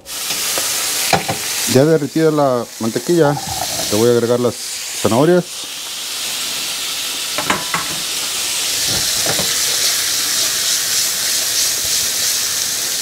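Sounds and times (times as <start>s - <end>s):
carrots sizzling in butter: 0.0s - 13.0s.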